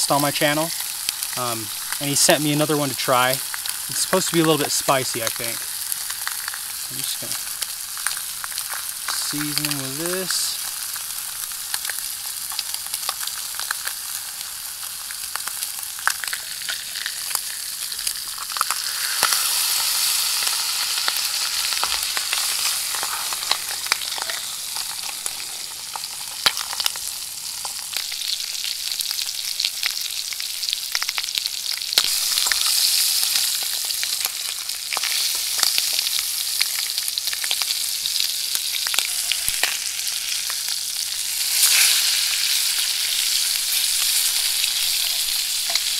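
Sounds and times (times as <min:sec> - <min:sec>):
fish sizzling in a frying pan: 0:00.0 - 0:45.9.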